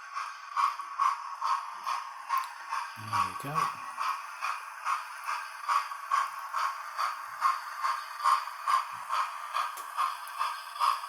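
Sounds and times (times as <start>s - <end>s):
model train clicking on track: 0.0s - 11.0s.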